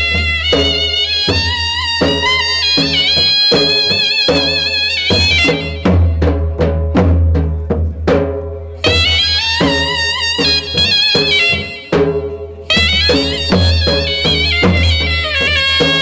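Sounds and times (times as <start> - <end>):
drum strikes: 0.0 - 16.0.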